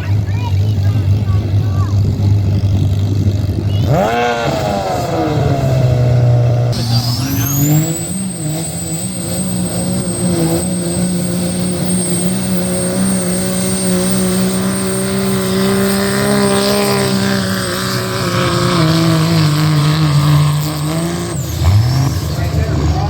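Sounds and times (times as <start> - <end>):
pulling engine under heavy load: 0.2 - 23.0.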